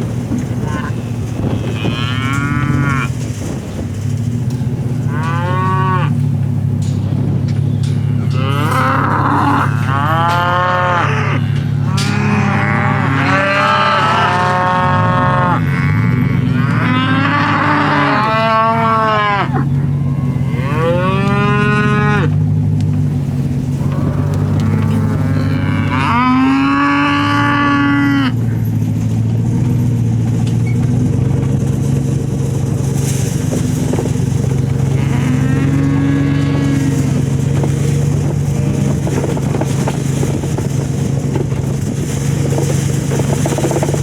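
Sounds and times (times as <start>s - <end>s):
cattle mooing: 0.0s - 29.1s, 32.7s - 44.0s
low steady hum: 0.0s - 44.0s.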